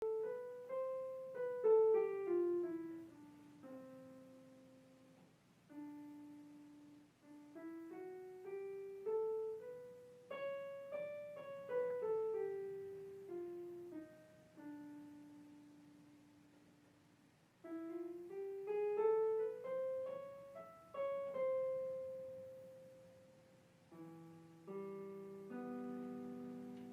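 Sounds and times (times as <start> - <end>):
slow solo piano melody: 0.0 - 16.4, 17.6 - 26.9.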